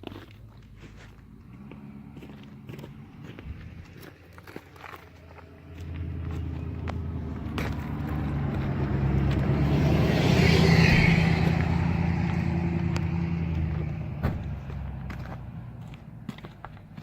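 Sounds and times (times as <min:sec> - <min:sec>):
vehicle driving past: 0:01.3 - 0:17.0.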